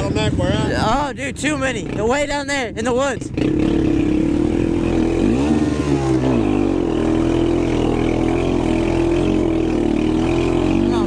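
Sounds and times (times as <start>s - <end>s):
quad engine under throttle: 0.0s - 11.0s
second engine rising and falling: 0.0s - 11.0s.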